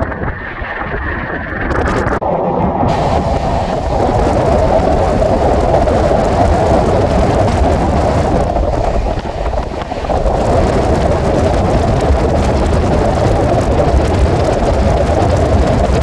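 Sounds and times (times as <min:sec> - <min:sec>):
train rumbling rush: 0:02.8 - 0:16.0.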